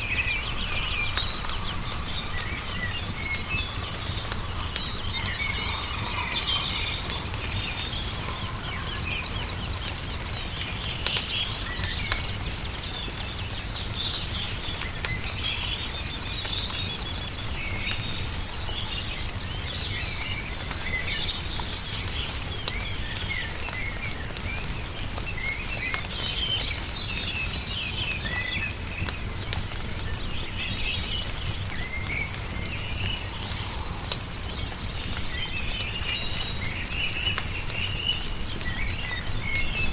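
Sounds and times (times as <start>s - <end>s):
songbirds chirping: 0.0s - 39.9s
wood fire crackling: 0.0s - 39.9s.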